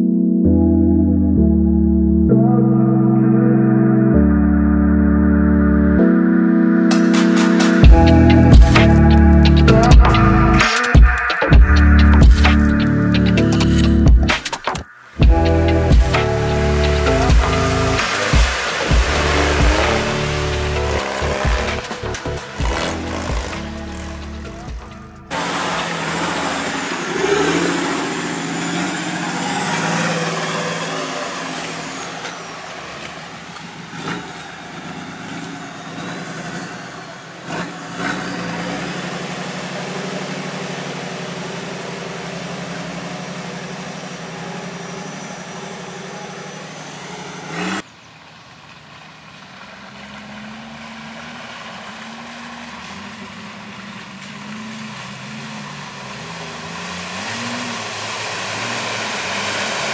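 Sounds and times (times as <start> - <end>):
engine running and revving: 6.8 - 59.9
quieter engine running: 7.0 - 59.9.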